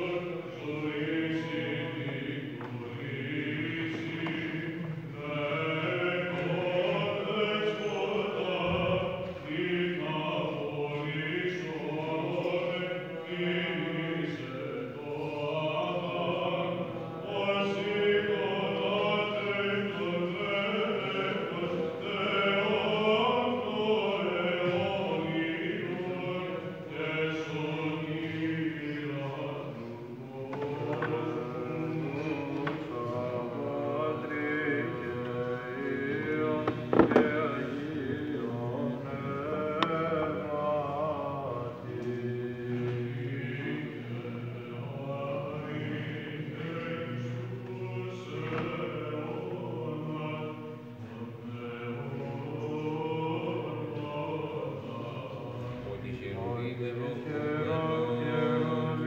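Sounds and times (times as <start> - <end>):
male voices chanting: 0.0 - 59.0.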